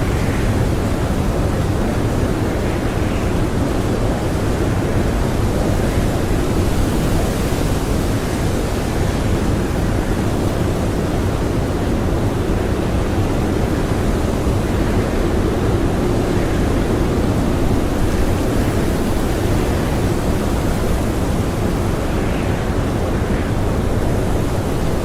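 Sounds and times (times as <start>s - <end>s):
strong blizzard wind blowing: 0.0s - 25.0s.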